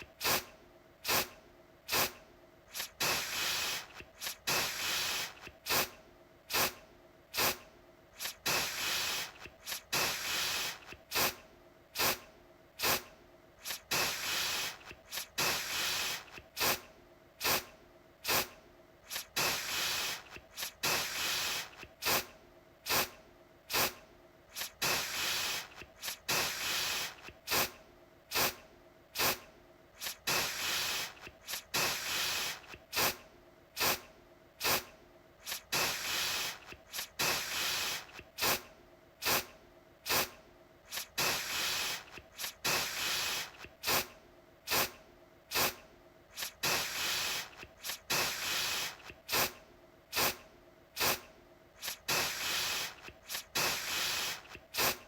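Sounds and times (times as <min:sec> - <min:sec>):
aerosol can spraying: 0:00.0 - 0:01.3, 0:01.9 - 0:07.6, 0:08.2 - 0:11.4, 0:12.0 - 0:12.2, 0:12.8 - 0:22.3, 0:22.9 - 0:28.6, 0:29.2 - 0:29.4, 0:30.0 - 0:33.2, 0:33.8 - 0:44.1, 0:44.7 - 0:50.4, 0:51.0 - 0:55.0.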